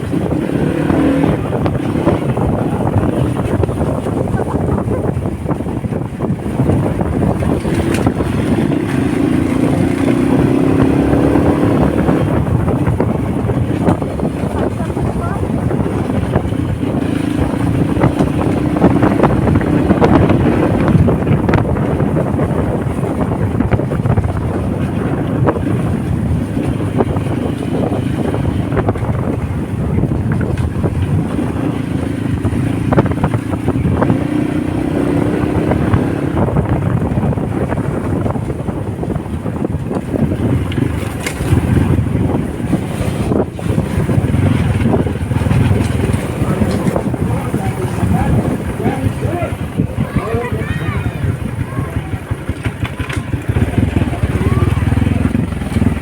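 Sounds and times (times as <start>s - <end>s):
motorcycle engine accelerating: 0.0s - 56.0s
wind buffeting microphone: 0.0s - 56.0s.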